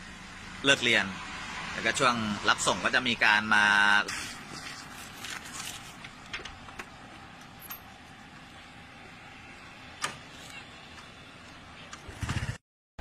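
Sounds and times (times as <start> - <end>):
roadside background noise: 0.0 - 12.6.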